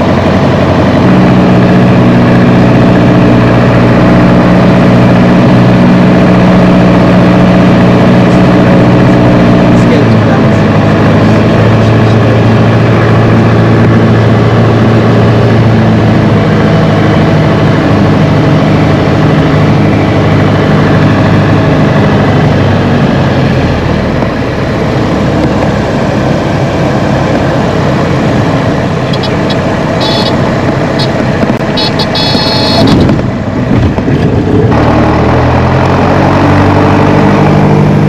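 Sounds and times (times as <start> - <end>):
propeller aircraft engine drone: 0.0 - 38.0.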